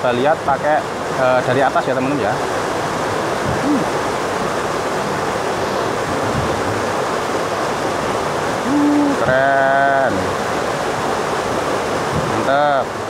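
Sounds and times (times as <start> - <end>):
river running over rocks: 0.0 - 13.0
waterfall rushing: 0.0 - 13.0.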